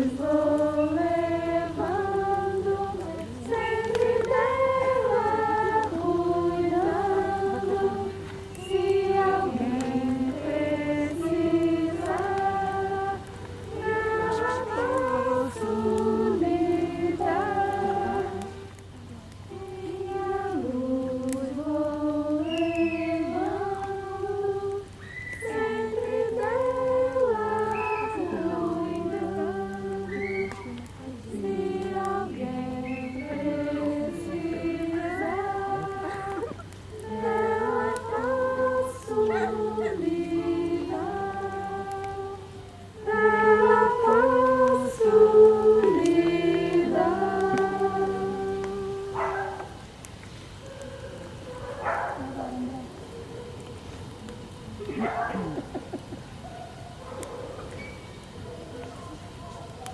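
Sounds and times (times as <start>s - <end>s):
voices singing unaccompanied: 0.0s - 50.2s, 50.8s - 56.4s.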